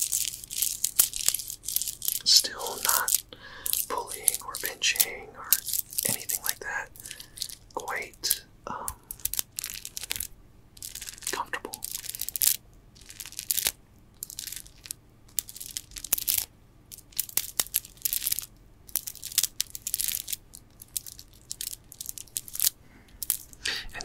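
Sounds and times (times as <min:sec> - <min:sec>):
stone beads clicking and grinding: 0:00.0 - 0:24.0.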